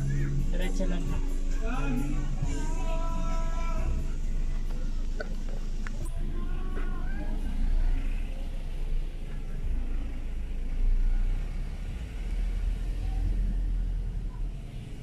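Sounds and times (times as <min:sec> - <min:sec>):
engine and road noise in cabin: 0:00.0 - 0:15.0.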